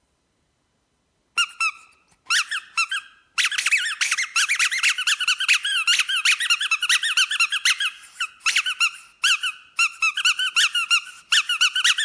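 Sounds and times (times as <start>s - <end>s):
squeaky dog toy squeaking: 1.4s - 12.0s.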